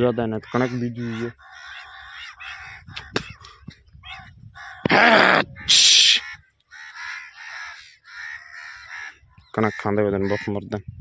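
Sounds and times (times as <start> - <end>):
crows cawing: 0.0 - 10.7.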